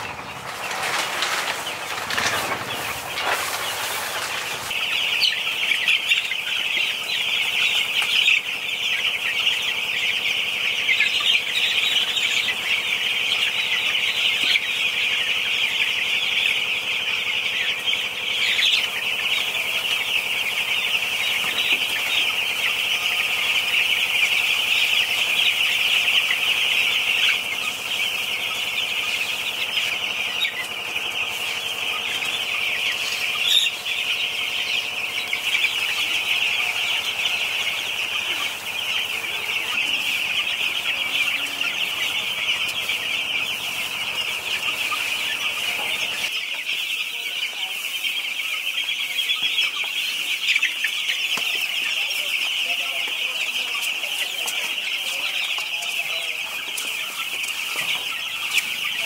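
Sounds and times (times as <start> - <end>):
chickens calling in chorus: 0.0 - 59.0.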